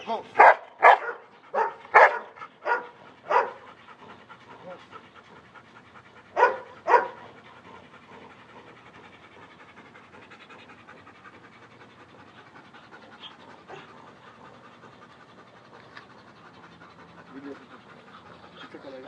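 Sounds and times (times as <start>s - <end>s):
dog panting rapidly: 0.0s - 19.0s.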